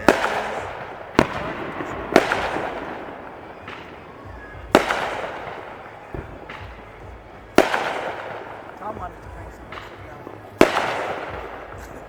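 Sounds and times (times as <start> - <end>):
faint firework pops: 0.0 - 12.0
fireworks bangs with echo: 0.0 - 12.0.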